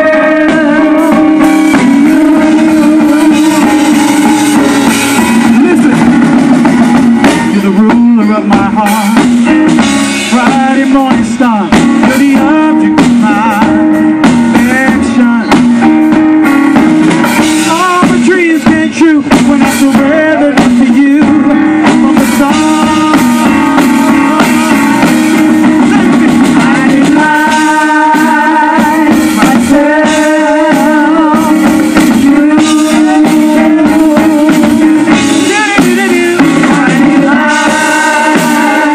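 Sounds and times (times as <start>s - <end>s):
person singing: 0.0s - 16.2s, 17.4s - 38.9s
live worship band playing: 0.0s - 38.9s.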